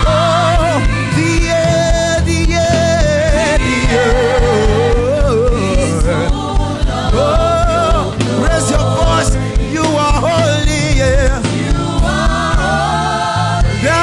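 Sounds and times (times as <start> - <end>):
band playing with beat and bass: 0.0 - 14.0.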